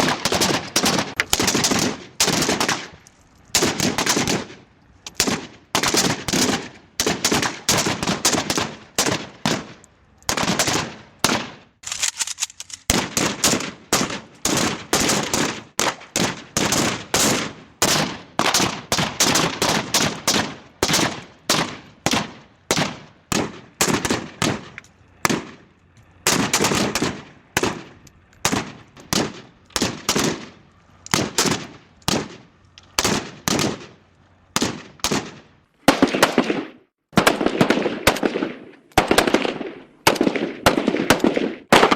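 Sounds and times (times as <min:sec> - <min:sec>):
rifle firing bursts: 0:00.0 - 0:03.0, 0:03.6 - 0:11.8, 0:12.9 - 0:41.9.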